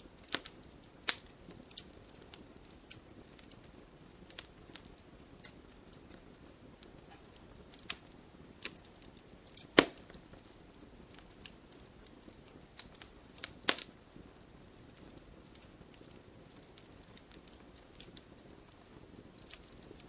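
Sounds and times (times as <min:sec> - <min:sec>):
campfire crackling: 0:00.0 - 0:20.0
loud fire pops: 0:00.0 - 0:20.0.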